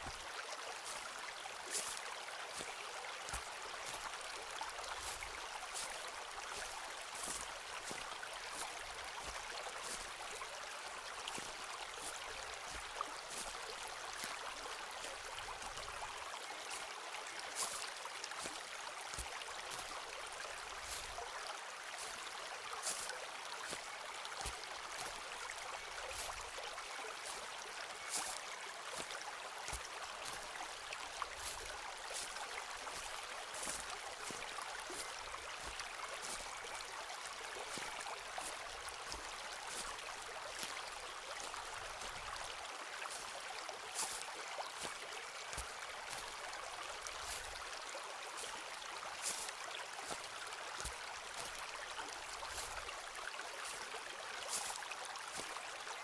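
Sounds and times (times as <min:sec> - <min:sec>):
forest stream running: 0:00.0 - 0:56.0.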